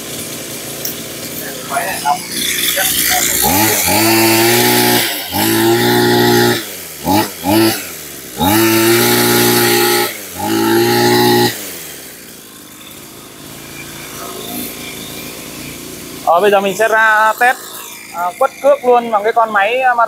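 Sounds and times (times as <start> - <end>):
brush cutter engine revving: 0.0 - 20.0.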